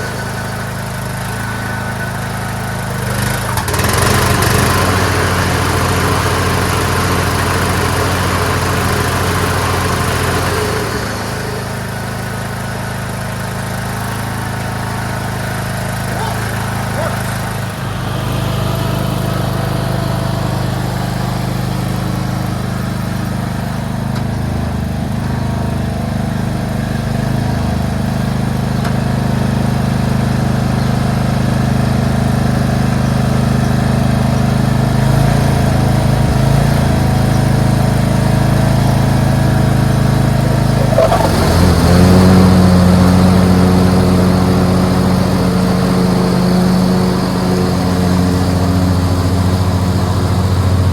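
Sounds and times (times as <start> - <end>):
lawn tractor engine mowing: 0.0 - 50.9.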